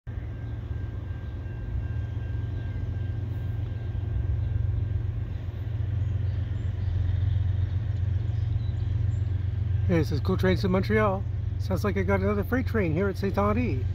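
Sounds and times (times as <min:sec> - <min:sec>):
distant vehicles rumbling: 0:00.1 - 0:13.9.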